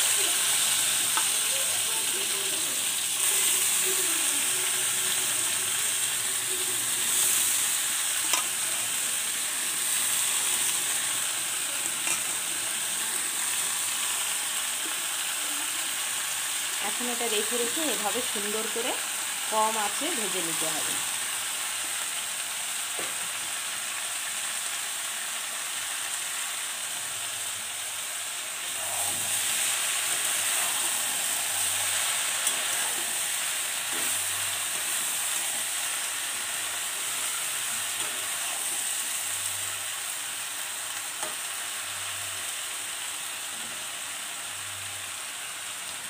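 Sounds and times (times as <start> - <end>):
food sizzling in oil: 0.0 - 46.0.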